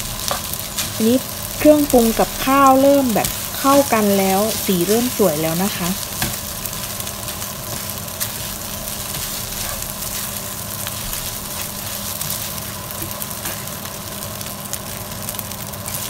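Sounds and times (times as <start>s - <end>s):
rice sizzling in a frying pan: 0.0s - 16.0s.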